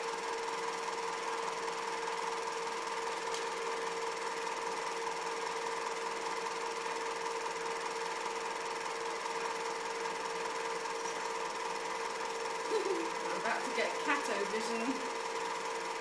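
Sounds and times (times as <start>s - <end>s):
film projector whirring: 0.0s - 16.0s.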